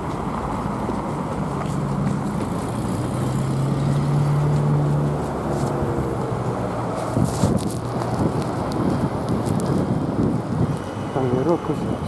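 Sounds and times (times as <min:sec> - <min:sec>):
vehicle engine hum passing: 0:00.0 - 0:12.0.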